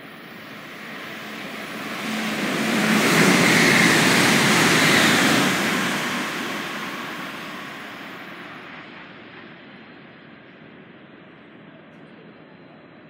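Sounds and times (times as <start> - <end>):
high-speed train passing: 0.0 - 11.9.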